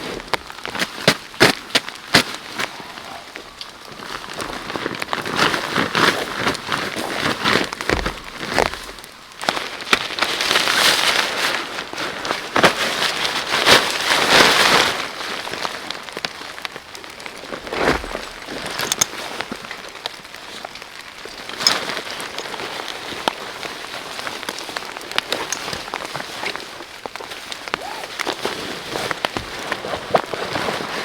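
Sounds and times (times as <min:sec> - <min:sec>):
raindrops ticking on a surface: 0:00.0 - 0:31.0.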